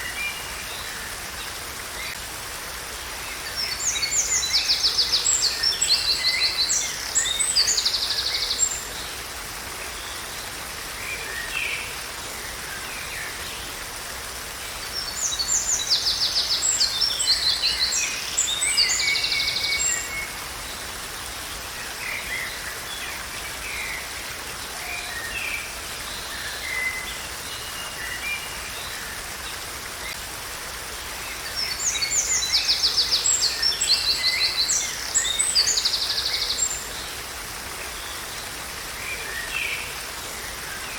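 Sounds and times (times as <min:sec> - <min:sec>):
falling water rushing: 0:00.0 - 0:40.9.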